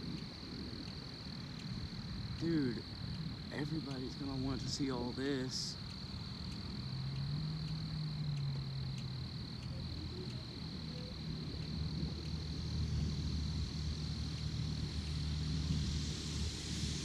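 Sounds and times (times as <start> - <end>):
crickets trilling: 0.0 - 17.0
low steady hum: 0.0 - 17.0.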